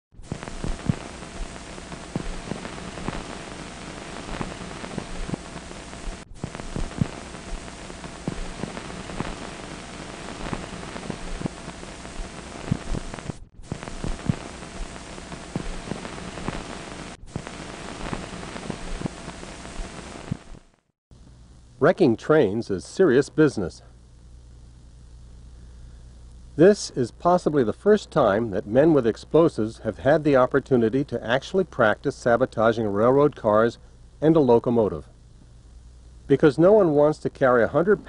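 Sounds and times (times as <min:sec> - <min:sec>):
faint steady hum: 0:00.2 - 0:38.0
film soundtrack hiss and crackle: 0:00.2 - 0:38.0.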